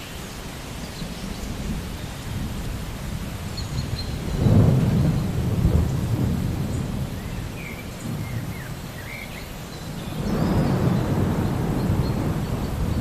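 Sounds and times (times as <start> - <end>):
rain hissing: 0.0 - 13.0
rolling thunder: 1.5 - 9.1, 9.8 - 13.0.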